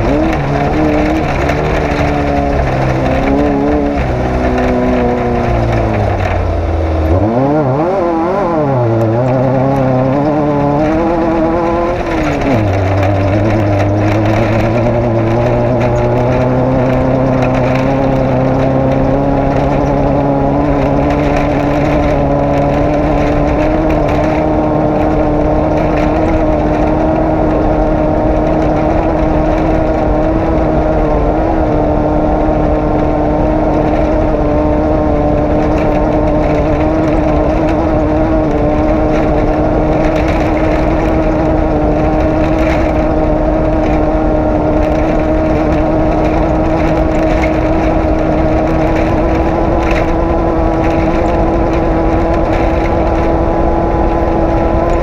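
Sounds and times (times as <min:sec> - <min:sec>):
vehicle engine running under load: 0:00.0 - 0:55.0.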